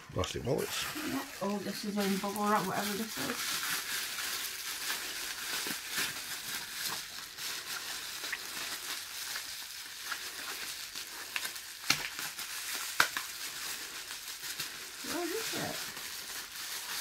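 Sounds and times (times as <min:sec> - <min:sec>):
bubble wrap crinkling: 0:00.4 - 0:17.0
bubble wrap snaps: 0:01.4 - 0:17.0.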